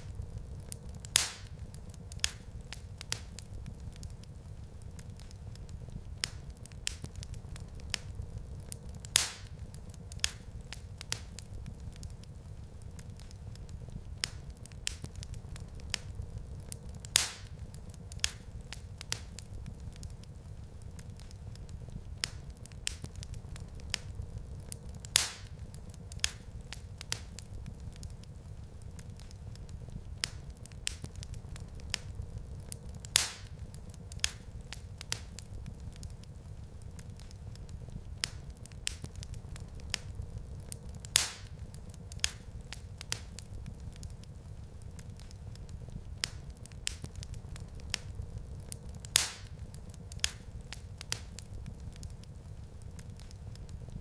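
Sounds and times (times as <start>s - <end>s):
fire flames rumbling: 0.0s - 54.0s
fire snaps and pops: 0.0s - 54.0s.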